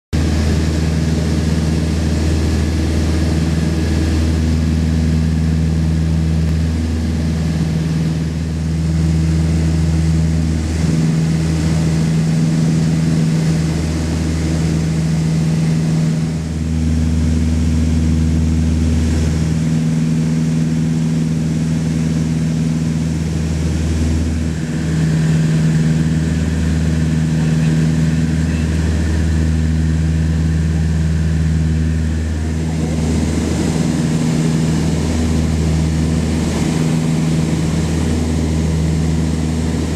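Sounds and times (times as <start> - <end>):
light aircraft engine droning: 0.2 - 39.9.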